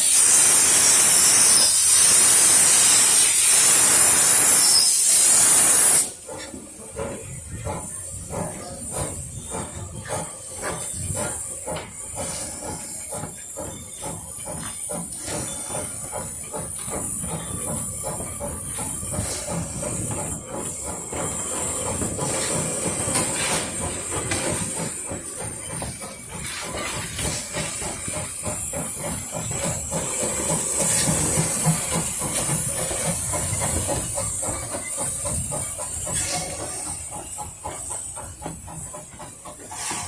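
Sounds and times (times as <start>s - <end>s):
steam hissing: 0.0s - 40.0s
steam train chuffing: 0.0s - 40.0s.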